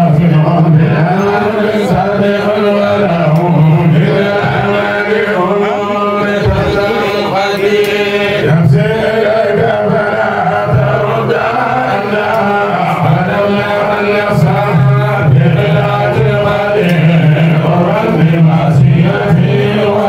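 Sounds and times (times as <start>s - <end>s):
men chanting together: 0.0s - 20.0s.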